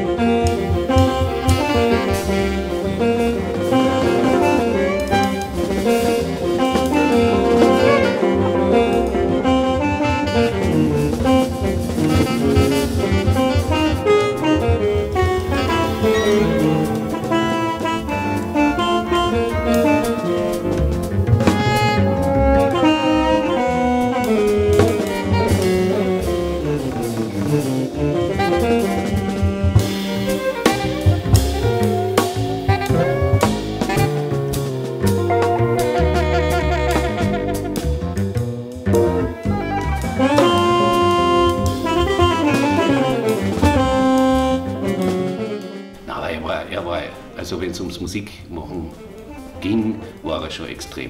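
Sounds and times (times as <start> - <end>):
drum kit with cymbals: 0.0 - 48.0
guitar: 0.0 - 48.0
alto saxophone: 0.0 - 51.0.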